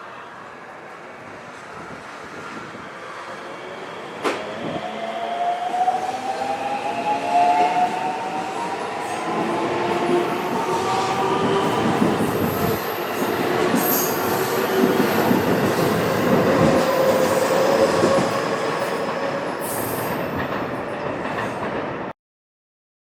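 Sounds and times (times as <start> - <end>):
electric train rumbling: 0.0 - 22.1.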